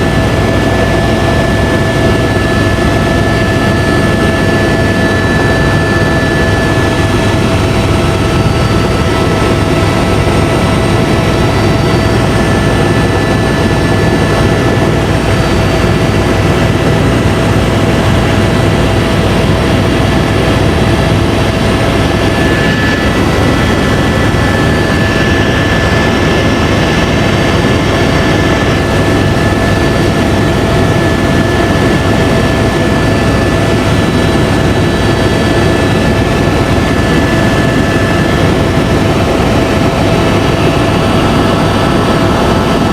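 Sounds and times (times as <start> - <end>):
helicopter drone from inside cabin: 0.0 - 42.9
high turbine whine: 0.0 - 42.9.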